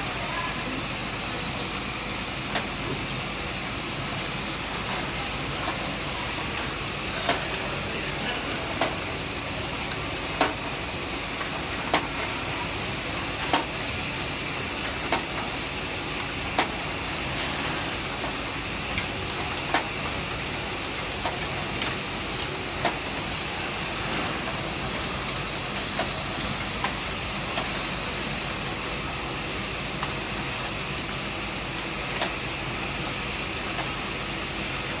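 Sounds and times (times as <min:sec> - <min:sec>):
bottle washing machine hissing: 0:00.0 - 0:35.0.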